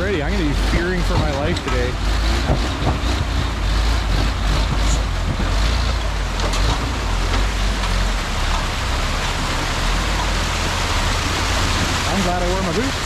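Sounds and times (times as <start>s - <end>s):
car engine running low: 0.0s - 13.0s
rushing water: 0.0s - 13.0s.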